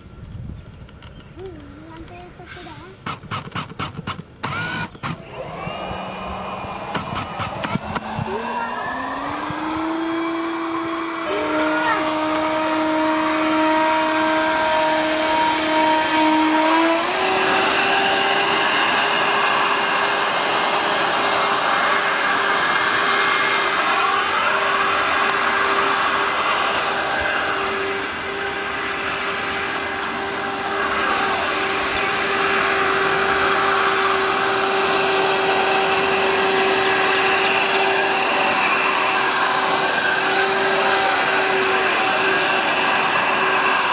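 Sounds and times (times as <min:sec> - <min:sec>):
electric ducted fans whining: 0:00.0 - 0:43.9.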